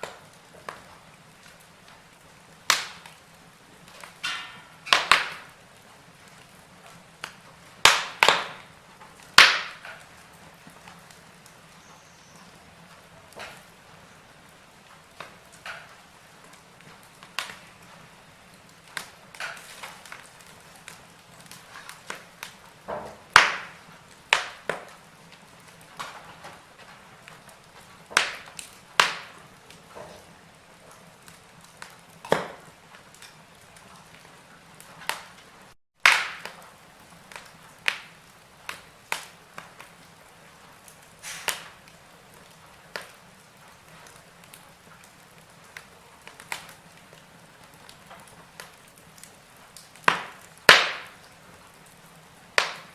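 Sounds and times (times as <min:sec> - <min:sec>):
faint steady hiss: 0:00.0 - 0:52.9
log fire crackling: 0:00.0 - 0:52.9.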